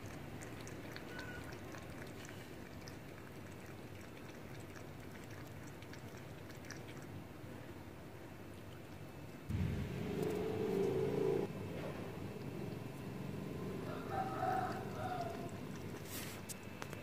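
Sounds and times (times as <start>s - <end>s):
cat lapping water: 0.0s - 17.0s.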